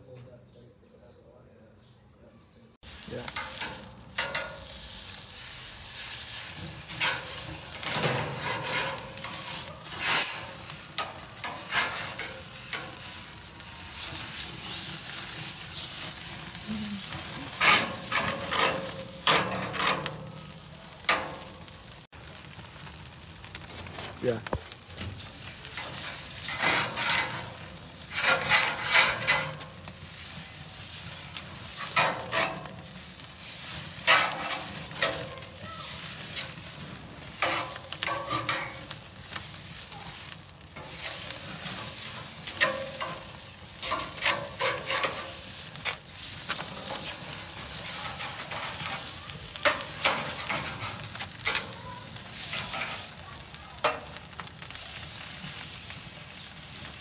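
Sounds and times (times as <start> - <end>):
steaks sizzling on a grill: 2.8 - 57.0.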